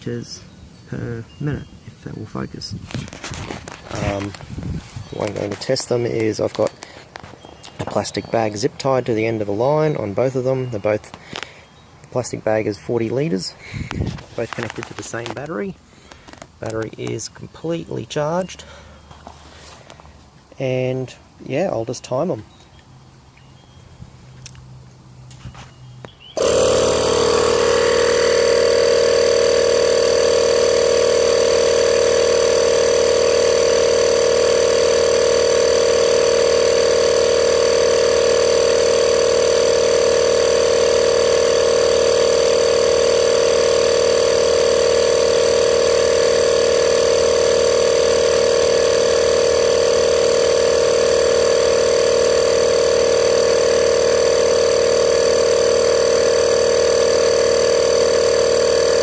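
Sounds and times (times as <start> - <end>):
air compressor running: 2.0 - 20.4, 26.4 - 59.0.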